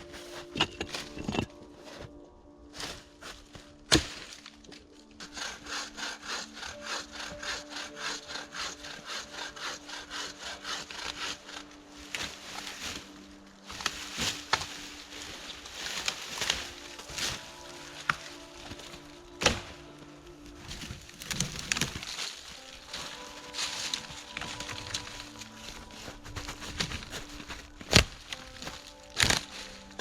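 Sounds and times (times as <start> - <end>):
hand saw cutting wood: 5.2 - 30.0.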